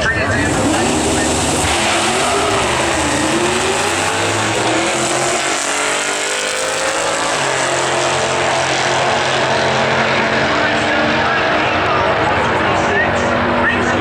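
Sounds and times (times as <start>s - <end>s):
lower engine note: 0.0s - 14.0s
racing car engines accelerating: 0.0s - 14.0s.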